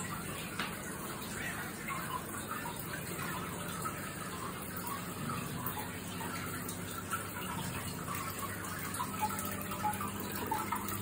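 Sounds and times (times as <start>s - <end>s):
filter water splashing into tank: 0.0s - 11.0s.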